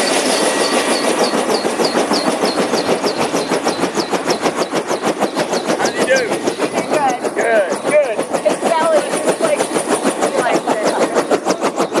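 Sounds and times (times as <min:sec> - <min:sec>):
helicopter rotor blades beating: 0:00.0 - 0:12.0
turbine whine: 0:00.0 - 0:12.0.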